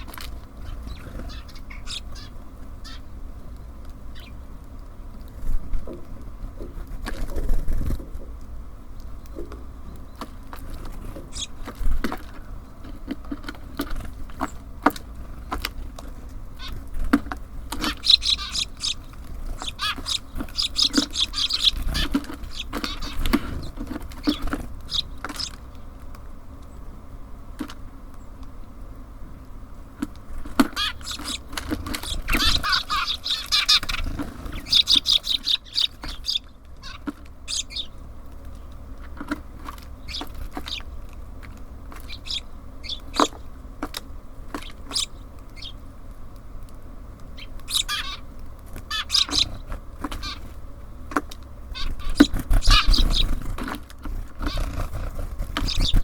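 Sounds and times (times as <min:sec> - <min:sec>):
small songbirds chirping: 0:00.0 - 0:27.0, 0:30.3 - 0:46.4, 0:47.2 - 0:56.0.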